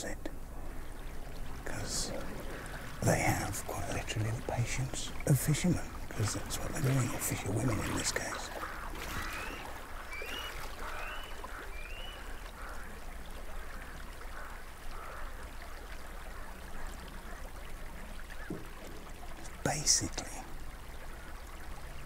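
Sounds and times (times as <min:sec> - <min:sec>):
river water trickling: 0:00.0 - 0:22.0.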